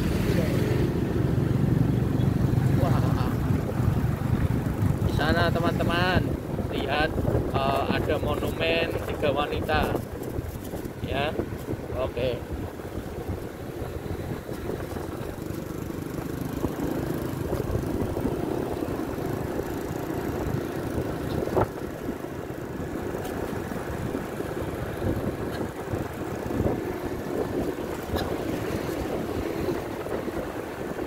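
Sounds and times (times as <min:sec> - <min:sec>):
motorcycle engine and road rumble: 0:00.0 - 0:31.0
wind on microphone: 0:00.0 - 0:31.0.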